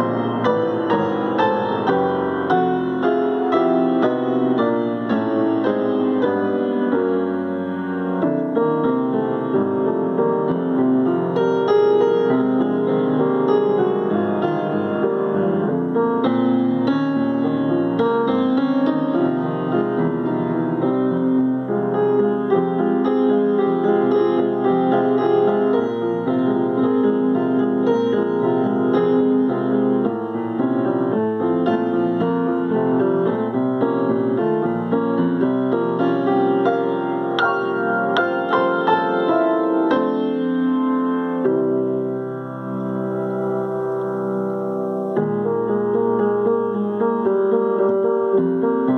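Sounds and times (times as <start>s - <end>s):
piano playing: 0.0s - 48.9s.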